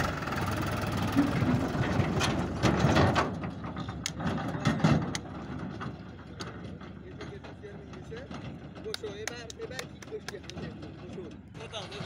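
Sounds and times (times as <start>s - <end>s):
tractor diesel engine: 0.0s - 12.0s
trailer metal rattling and clanking: 0.0s - 12.0s.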